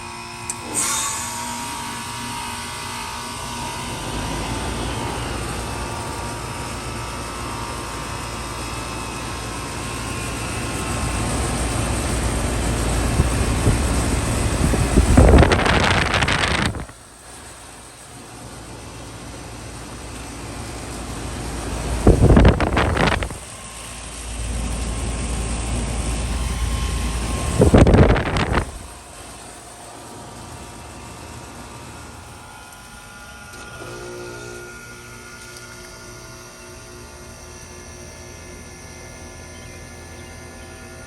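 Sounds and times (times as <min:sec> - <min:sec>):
heat pump machine noise: 0:00.0 - 0:41.0.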